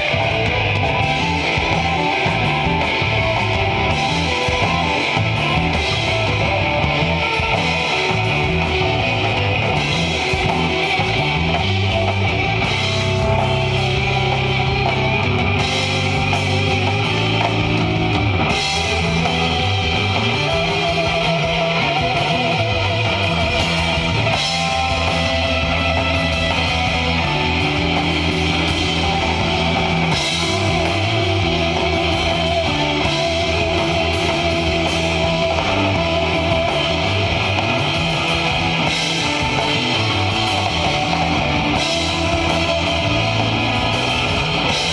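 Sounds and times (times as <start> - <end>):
bass guitar: 0.0 - 44.9
drum kit: 0.0 - 44.9
electric guitar: 0.0 - 44.9.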